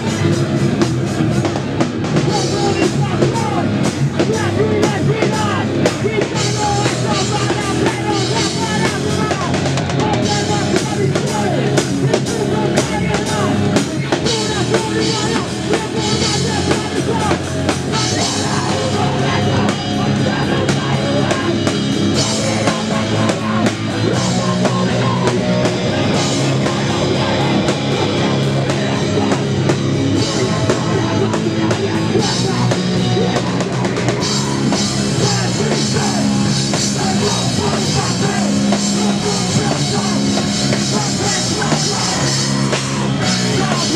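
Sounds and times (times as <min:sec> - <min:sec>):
drum kit: 0:00.0 - 0:43.9
electric bass: 0:00.0 - 0:43.9
electric guitar: 0:00.0 - 0:43.9
person singing: 0:02.2 - 0:43.9.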